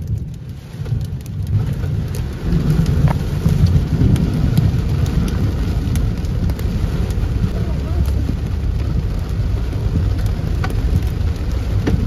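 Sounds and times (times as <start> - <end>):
rain drops on car windshield: 0.0 - 12.0
thunder rumble: 0.0 - 12.0.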